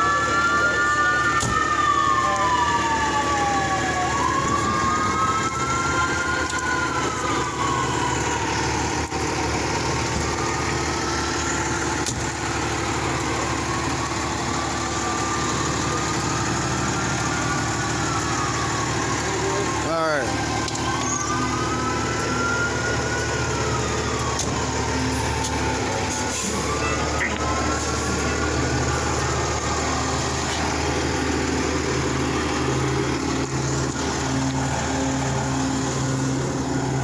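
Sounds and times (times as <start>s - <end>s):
fire engine idling: 0.0s - 37.0s
sirens wailing: 0.0s - 37.0s.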